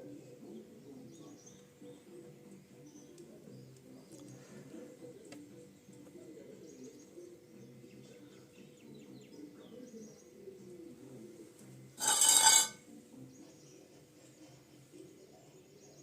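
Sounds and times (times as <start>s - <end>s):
low background murmur: 0.0s - 16.0s.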